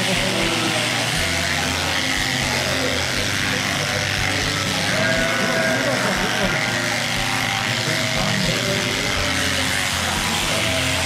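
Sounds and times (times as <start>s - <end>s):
electric shearing machine humming: 0.0s - 11.0s.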